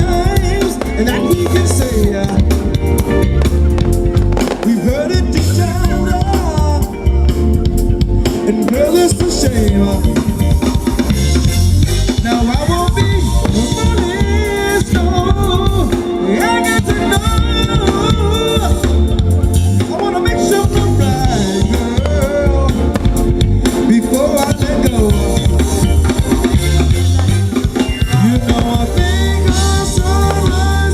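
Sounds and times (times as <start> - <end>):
drum kit beat: 0.0 - 30.9
live band playing dance song: 0.0 - 30.9.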